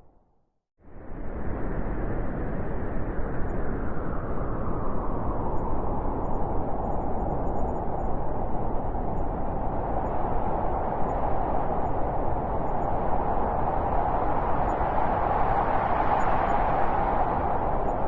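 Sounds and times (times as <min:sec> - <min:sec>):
blizzard wind blowing: 0:00.8 - 0:18.0.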